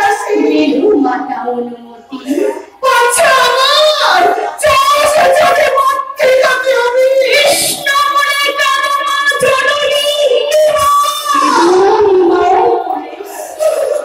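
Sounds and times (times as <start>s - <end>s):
high voice singing devotional song: 0.0s - 14.0s.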